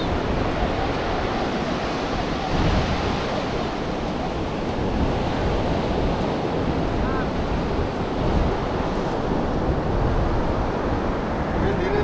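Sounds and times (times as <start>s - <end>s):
ocean surf breaking on sand: 0.0s - 12.0s
wind rumbling on microphone: 0.0s - 12.0s.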